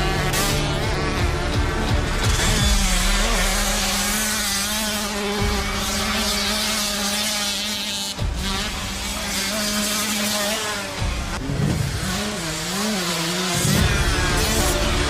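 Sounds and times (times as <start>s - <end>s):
background music: 0.0s - 15.0s
motorcycle engine revving: 0.0s - 15.0s.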